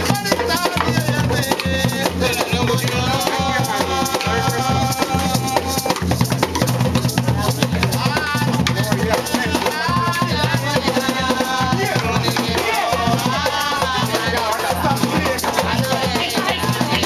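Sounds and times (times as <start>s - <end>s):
hand drums beating fast: 0.0s - 17.0s
shakers rattling: 0.0s - 17.0s.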